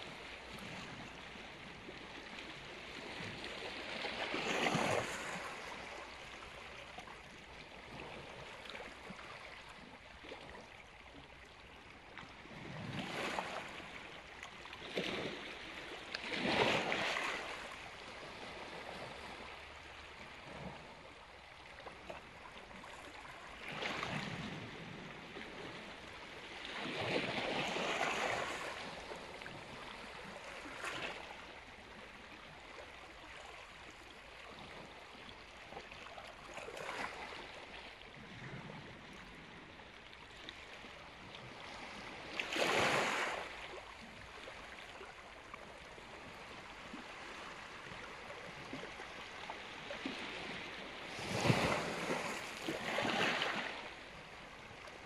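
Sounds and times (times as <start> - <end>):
waves lapping over rocks: 0.0 - 55.0.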